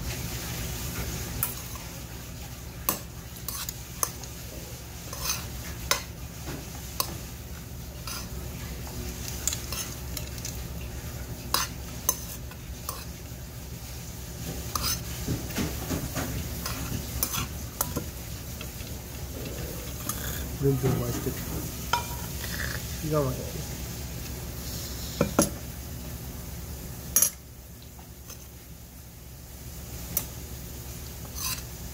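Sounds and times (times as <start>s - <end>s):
rice being mixed: 0.0s - 26.4s, 28.0s - 31.9s.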